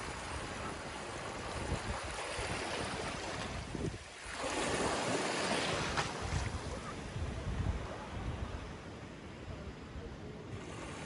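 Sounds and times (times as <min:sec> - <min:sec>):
small waves breaking: 0:00.0 - 0:09.5, 0:10.4 - 0:11.0.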